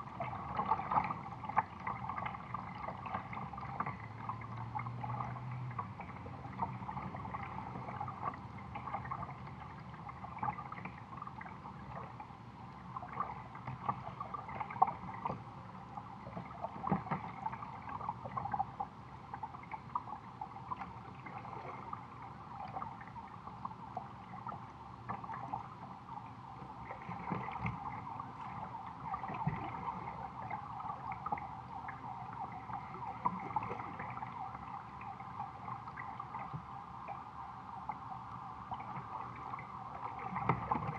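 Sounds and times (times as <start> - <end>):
water lapping against kayak hull: 0.0 - 40.9.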